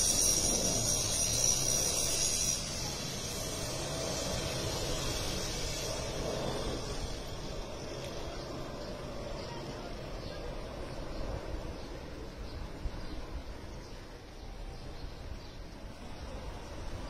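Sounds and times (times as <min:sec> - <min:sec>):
distant jet engine roar: 0:00.0 - 0:17.0.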